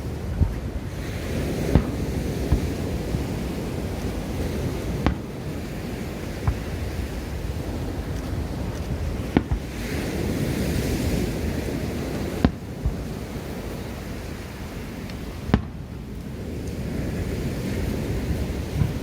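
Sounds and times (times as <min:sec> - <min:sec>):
firework bangs: 0:00.0 - 0:16.1, 0:18.2 - 0:19.0
surf rushing: 0:00.0 - 0:19.0
wind buffeting microphone: 0:00.0 - 0:19.0.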